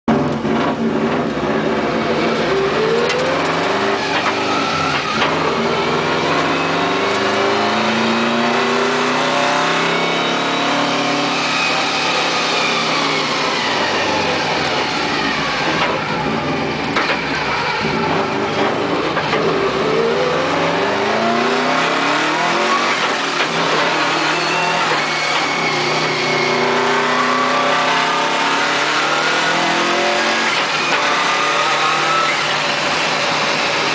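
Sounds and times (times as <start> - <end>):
car engine accelerating: 0.1 - 33.9.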